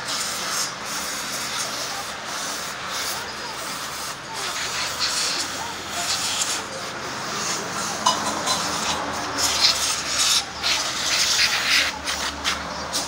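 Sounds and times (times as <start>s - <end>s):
aerosol spray bursts: 0.0s - 13.0s.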